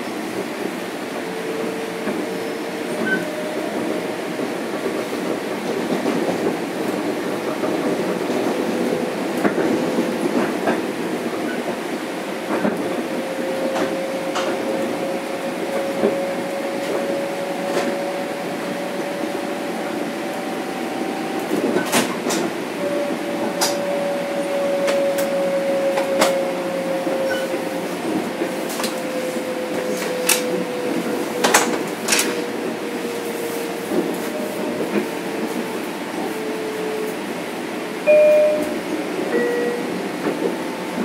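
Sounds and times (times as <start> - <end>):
train rolling noise: 0.0 - 41.0.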